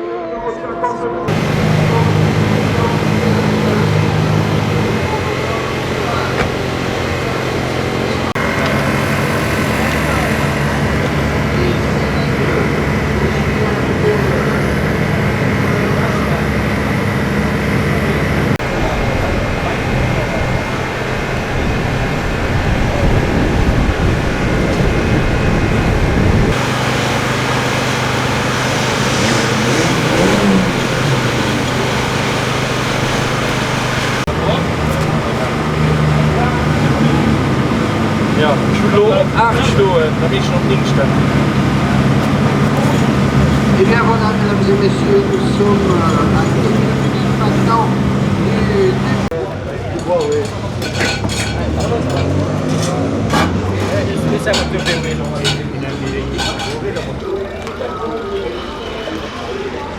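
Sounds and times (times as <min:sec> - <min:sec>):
voices: 0:00.0 - 0:59.9
racing car engine: 0:01.2 - 0:59.9.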